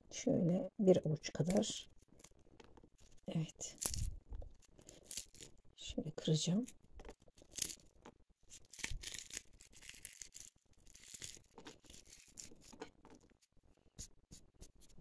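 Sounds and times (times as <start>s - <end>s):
walnut kernels crackling: 1.3s - 13.5s.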